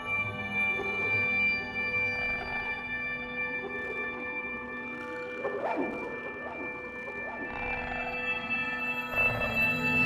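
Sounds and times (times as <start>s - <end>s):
ambient droning music: 0.0s - 10.0s.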